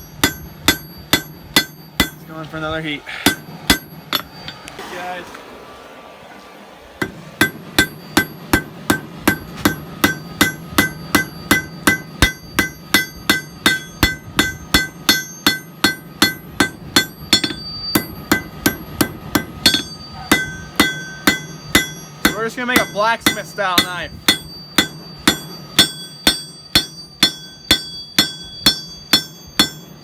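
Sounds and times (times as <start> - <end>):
hammer striking steel on anvil: 0.0 - 4.8, 7.0 - 30.0
steady low hum: 0.0 - 30.0.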